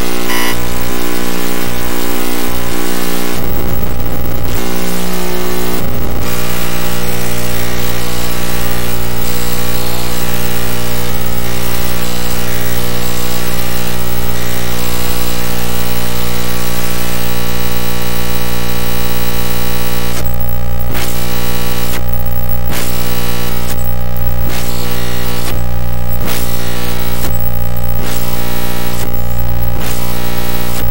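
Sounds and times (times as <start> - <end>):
harsh electronic buzzing tones: 0.0 - 30.9.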